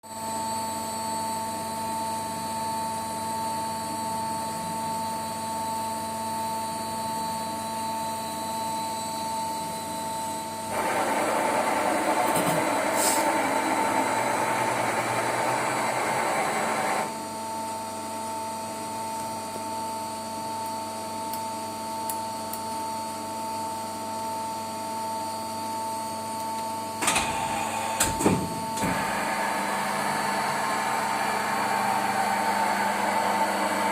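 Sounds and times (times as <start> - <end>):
lathe whine and hum: 0.1 - 33.9.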